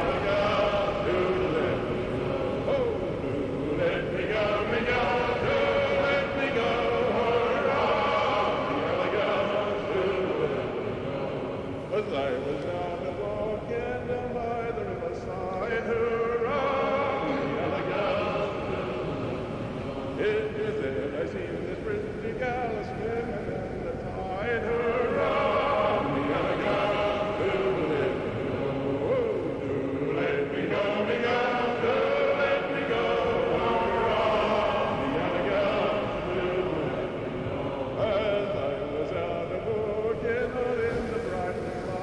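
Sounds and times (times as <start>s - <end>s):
slowed reverberant choir-like voices: 0.0s - 42.0s.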